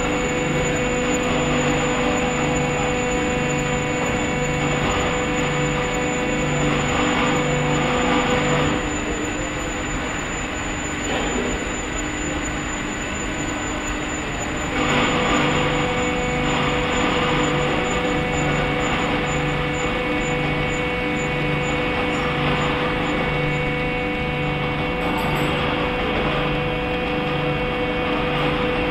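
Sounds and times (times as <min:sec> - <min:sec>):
machine humming: 0:00.0 - 0:28.9.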